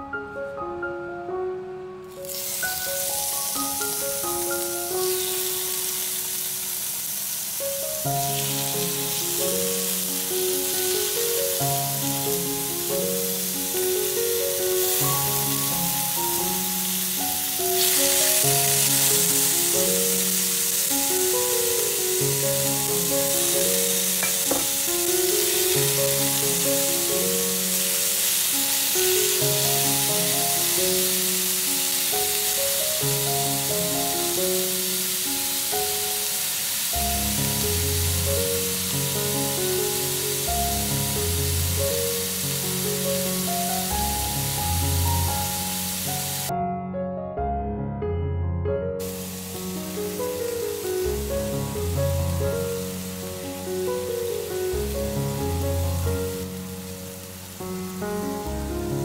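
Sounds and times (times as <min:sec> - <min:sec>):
gentle melodic background music: 0:00.0 - 0:06.7, 0:07.4 - 0:59.0
meat sizzling in hot oil: 0:02.1 - 0:46.5, 0:49.0 - 0:59.0.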